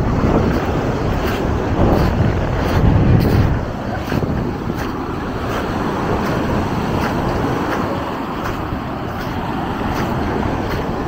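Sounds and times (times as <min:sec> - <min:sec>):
beach surf: 0:00.0 - 0:11.0
faint footsteps: 0:00.0 - 0:11.0
wind on microphone: 0:00.0 - 0:11.0.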